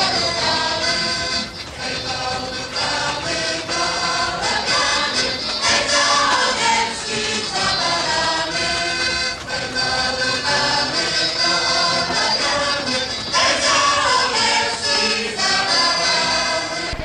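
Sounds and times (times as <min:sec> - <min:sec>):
choir singing with music: 0:00.0 - 0:17.0.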